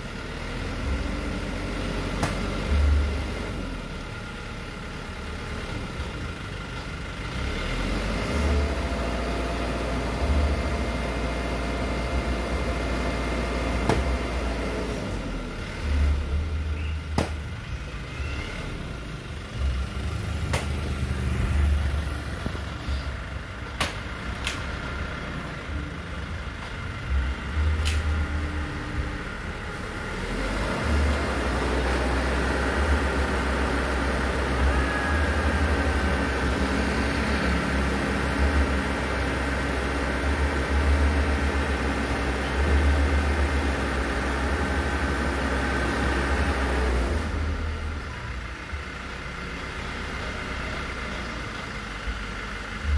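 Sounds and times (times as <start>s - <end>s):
truck engine running: 0.0s - 52.9s.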